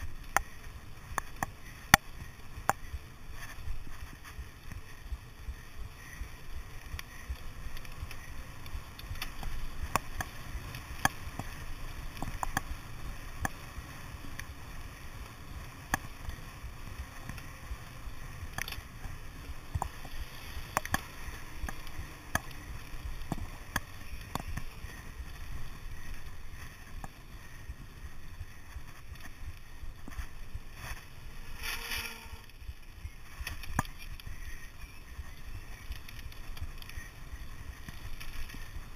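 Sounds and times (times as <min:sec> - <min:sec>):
bike clicks and rattles: 0:00.0 - 0:38.9
bike tyres rumbling: 0:00.0 - 0:38.9.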